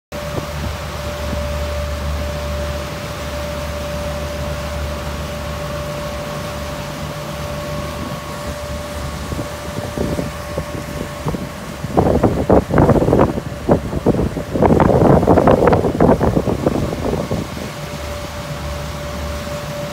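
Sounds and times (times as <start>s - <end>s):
boat engine drone: 0.1s - 19.9s
boat wake washing: 0.1s - 19.9s
wind buffeting microphone: 0.2s - 19.9s.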